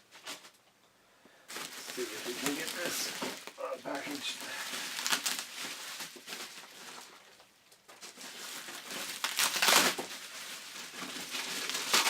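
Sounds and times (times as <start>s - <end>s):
packaging crinkling and rustling: 1.5s - 12.0s.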